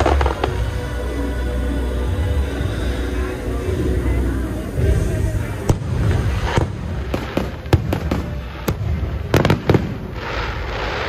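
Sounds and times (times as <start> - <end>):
fireworks bursting with sharp bangs: 0.0 - 1.3, 2.0 - 11.0
continuous low rumble: 0.0 - 11.0.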